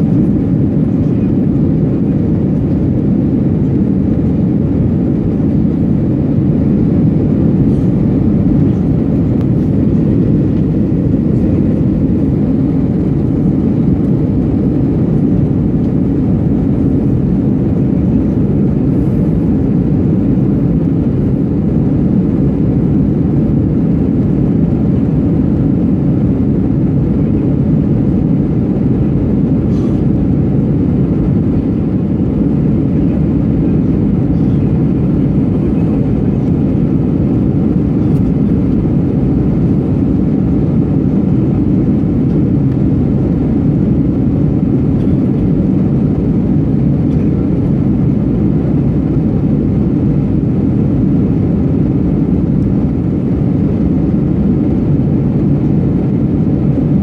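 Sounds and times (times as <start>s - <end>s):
jet cabin rumble: 0.0s - 57.0s.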